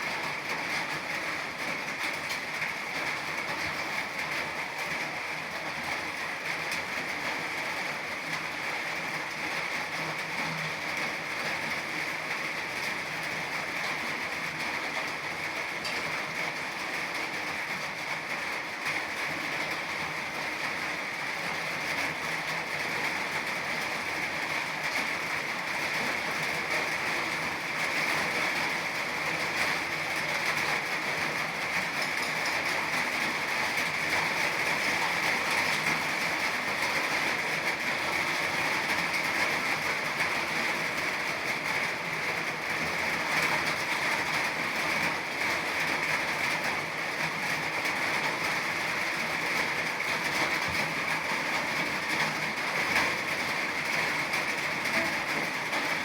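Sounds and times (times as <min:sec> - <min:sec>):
steady rain with wind: 0:00.0 - 0:56.0.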